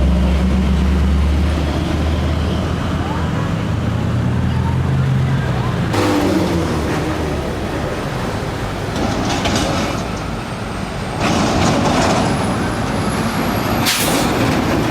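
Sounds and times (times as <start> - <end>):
heavy vehicles passing: 0.0 - 14.9.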